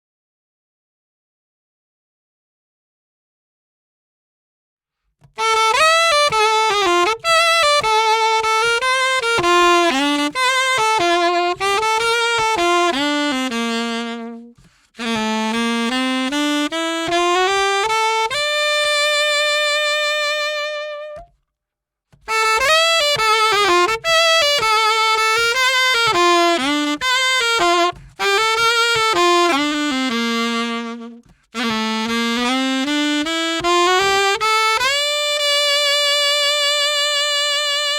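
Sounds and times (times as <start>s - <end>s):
solo saxophone: 5.2s - 21.4s, 22.1s - 37.9s.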